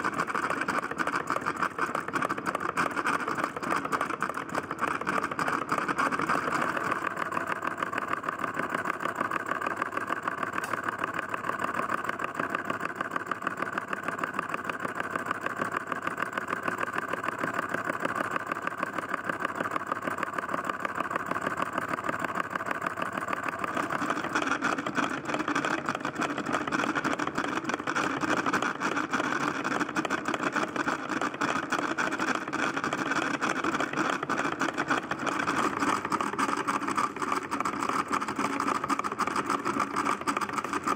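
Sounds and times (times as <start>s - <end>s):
small solenoid engine clicking: 0.0s - 40.9s.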